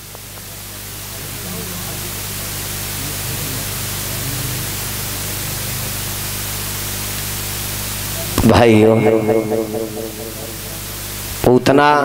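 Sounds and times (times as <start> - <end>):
loud hiss: 0.0 - 11.6
low mains hum: 0.0 - 12.0.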